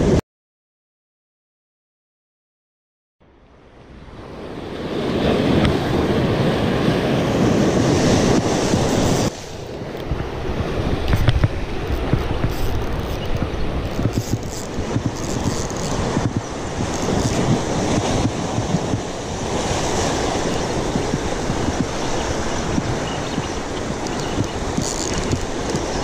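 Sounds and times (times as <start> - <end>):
wind buffeting microphone: 3.9 - 26.0
surf breaking over rocks: 4.7 - 26.0.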